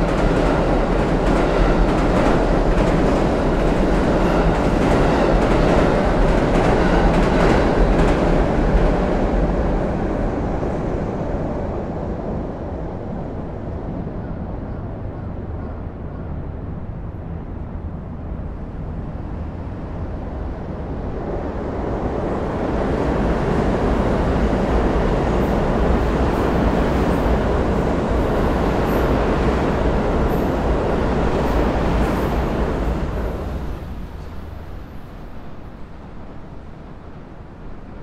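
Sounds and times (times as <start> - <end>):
train crossing steel bridge: 0.0 - 38.0.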